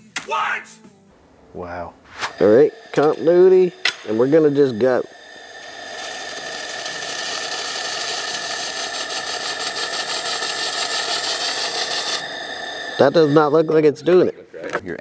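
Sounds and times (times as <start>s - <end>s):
high machine whine: 1.2s - 15.0s
laser welding sizzling hiss: 2.0s - 14.5s.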